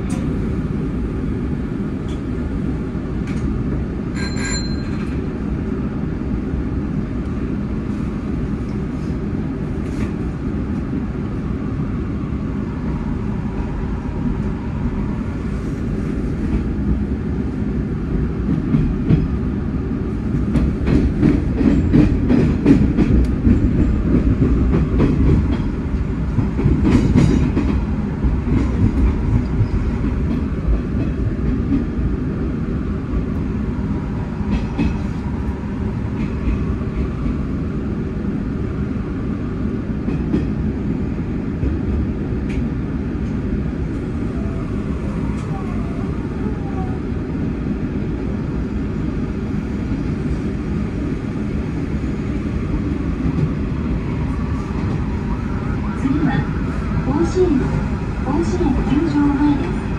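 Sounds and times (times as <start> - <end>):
train running gear rumble: 0.0 - 59.9.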